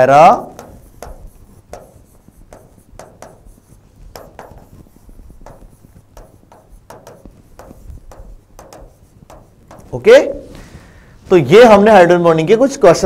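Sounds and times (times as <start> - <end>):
chalk scratching and tapping on chalkboard: 0.0 - 11.9.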